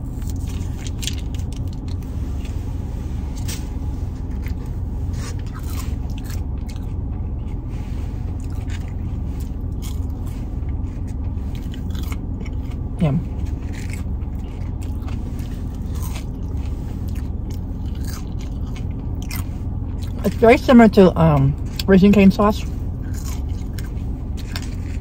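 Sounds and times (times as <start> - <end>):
car interior rumble: 0.0 - 25.0
fries being chewed: 0.0 - 25.0.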